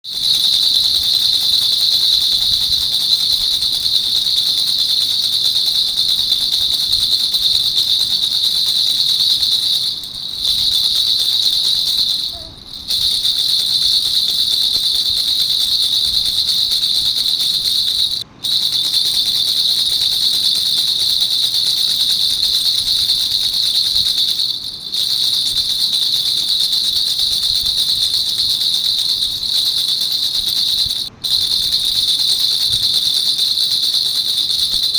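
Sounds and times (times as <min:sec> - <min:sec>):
baby rattle shaken: 0:00.0 - 0:34.9.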